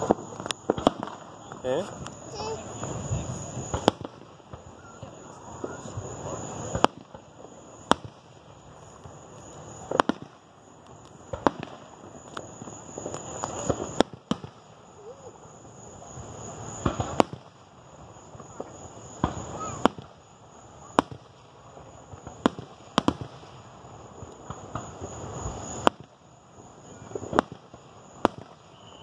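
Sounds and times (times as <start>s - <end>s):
fireworks shells bursting: 0.0s - 15.2s, 16.0s - 29.0s.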